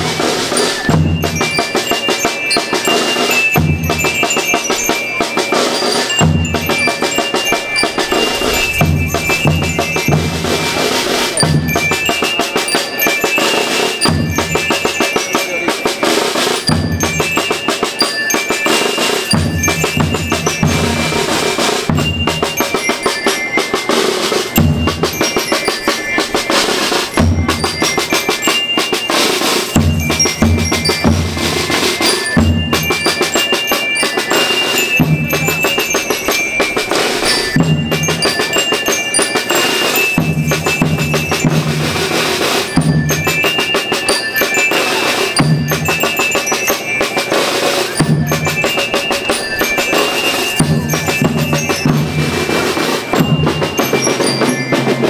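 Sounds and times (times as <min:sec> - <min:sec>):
bell lyre melody: 0:00.0 - 0:55.0
snare drums beating: 0:00.0 - 0:55.0.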